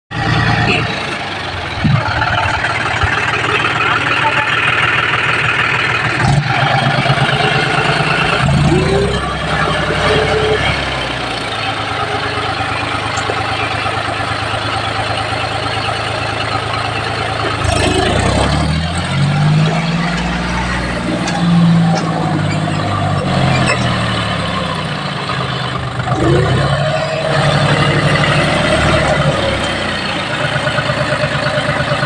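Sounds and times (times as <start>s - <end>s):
tractor diesel engine running: 0.1s - 32.0s.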